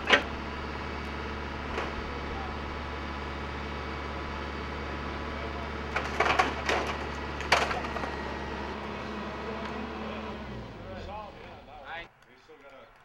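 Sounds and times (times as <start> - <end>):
excavator engine running: 0.0 - 12.2.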